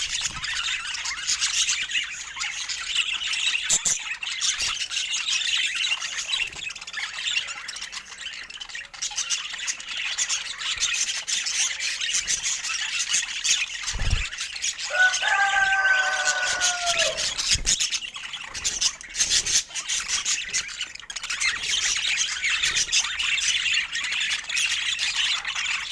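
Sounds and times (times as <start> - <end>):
budgerigars chattering and chirping: 0.0 - 25.9.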